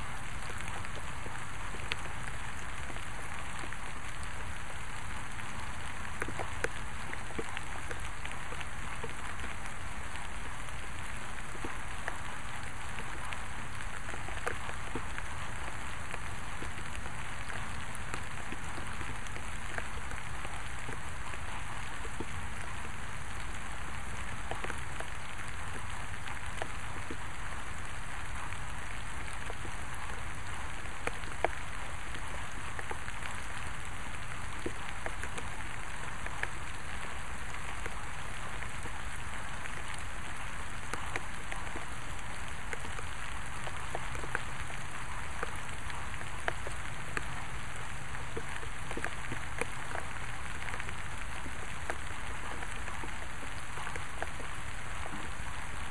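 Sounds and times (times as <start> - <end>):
raindrop ticks: 0.0 - 55.9
steady rain falling: 0.0 - 55.9.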